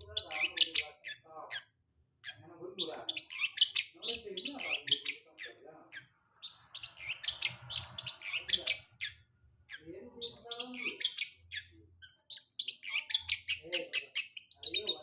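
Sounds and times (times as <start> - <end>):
bird chirping and trilling: 0.0 - 15.0.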